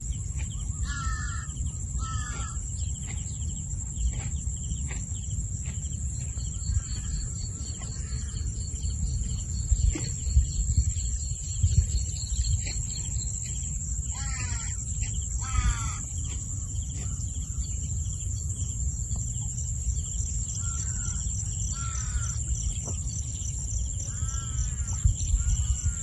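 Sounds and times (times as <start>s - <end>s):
high insect drone: 0.0s - 26.0s
pulsing insect trill: 0.0s - 26.0s
birds calling harshly: 0.4s - 5.3s, 6.0s - 18.8s, 20.3s - 26.0s.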